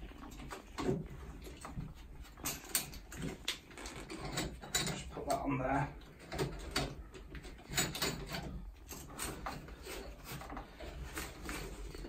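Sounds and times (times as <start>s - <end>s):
adapter clicking and scraping on valves: 0.0s - 12.0s.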